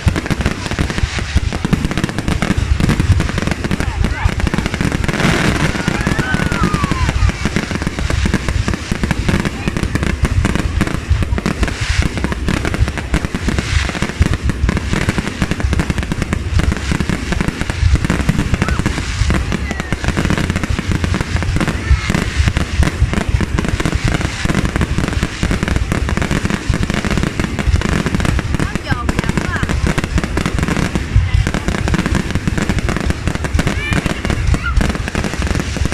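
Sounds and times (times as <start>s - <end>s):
fireworks booming and crackling: 0.0s - 35.9s.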